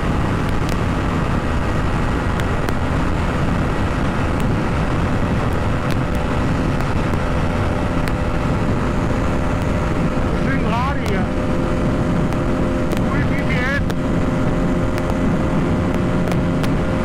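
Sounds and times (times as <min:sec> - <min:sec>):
motorcycle engine at high revs: 0:00.0 - 0:17.0
wind rushing: 0:00.0 - 0:17.0.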